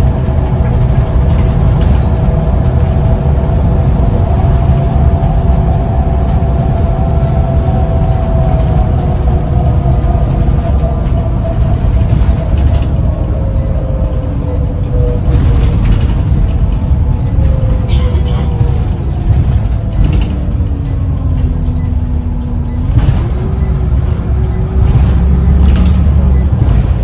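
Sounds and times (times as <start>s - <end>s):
bus engine rumble: 0.0s - 27.0s
drivetrain whine: 0.0s - 27.0s.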